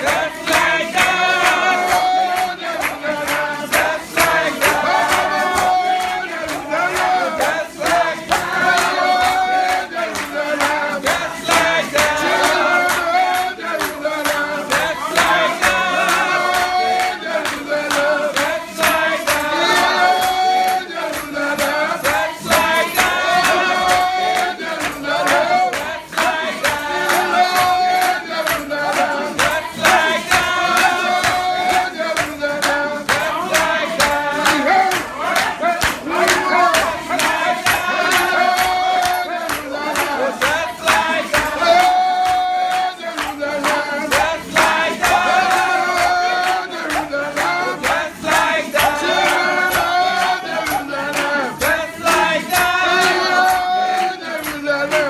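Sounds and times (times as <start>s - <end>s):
congregation singing: 0.0s - 55.0s
steady rhythmic beat: 0.0s - 55.0s.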